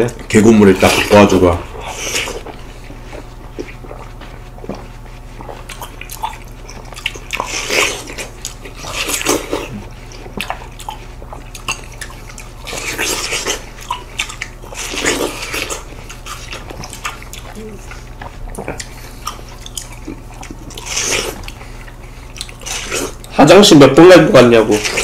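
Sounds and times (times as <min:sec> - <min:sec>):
people biting and chewing watermelon: 0:00.0 - 0:25.0.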